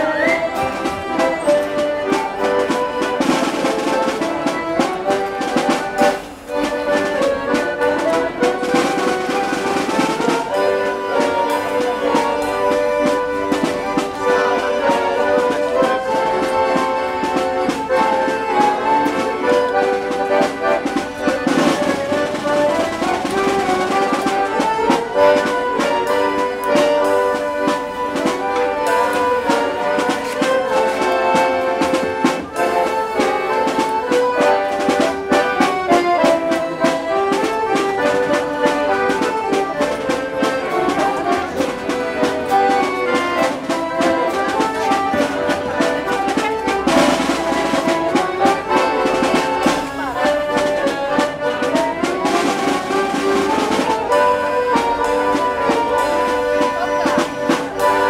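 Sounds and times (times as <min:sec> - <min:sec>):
accordion ensemble playing: 0:00.0 - 0:58.0.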